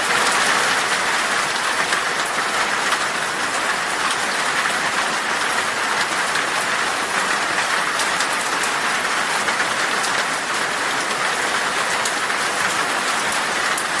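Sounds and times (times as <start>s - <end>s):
heavy rain on glass: 0.0s - 14.0s.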